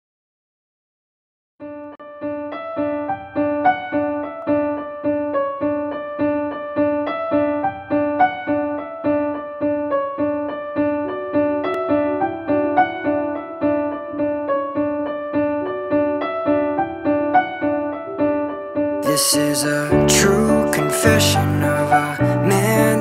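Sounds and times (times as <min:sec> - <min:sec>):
repeating piano pattern: 0:01.6 - 0:23.0.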